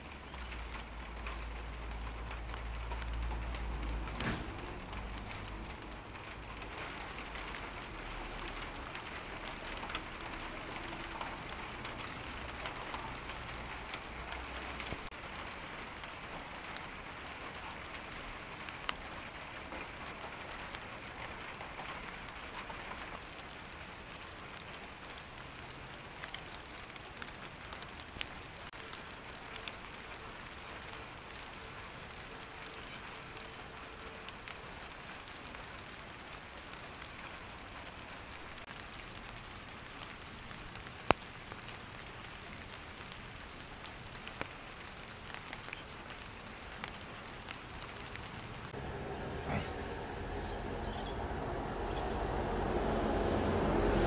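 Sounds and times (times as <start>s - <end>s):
raindrops ticking: 0.0s - 48.8s
rain falling on leaves: 0.0s - 54.0s.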